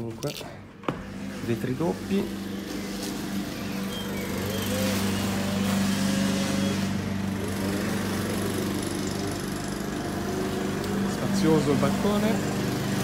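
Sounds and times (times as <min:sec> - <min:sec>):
lawn mower engine running: 0:01.0 - 0:13.0.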